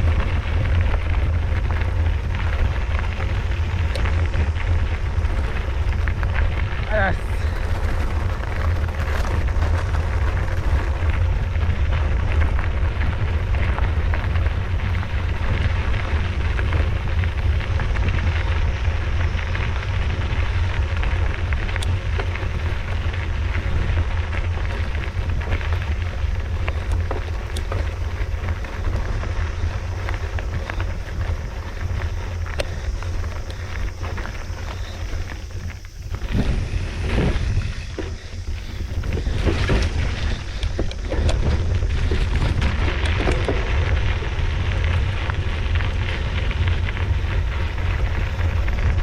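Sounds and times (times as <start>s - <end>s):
tyres crackling on dirt: 0.0s - 49.0s
wind buffeting microphone: 0.0s - 49.0s.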